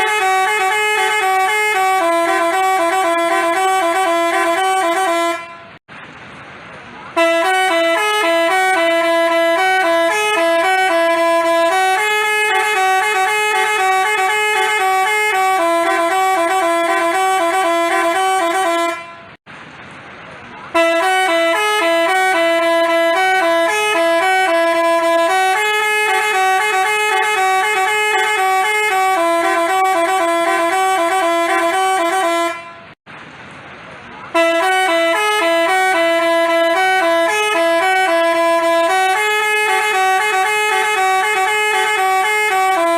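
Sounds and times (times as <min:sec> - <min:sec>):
bus horn playing a tune: 0:00.0 - 0:05.8, 0:07.1 - 0:19.4, 0:20.7 - 0:33.0, 0:34.3 - 0:42.9.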